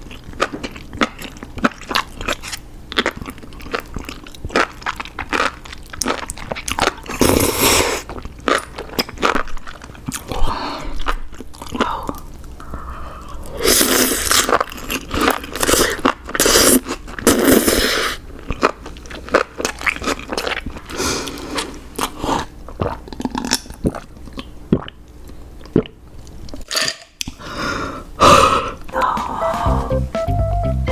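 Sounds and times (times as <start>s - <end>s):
person chewing crunchy food: 0.0s - 27.4s.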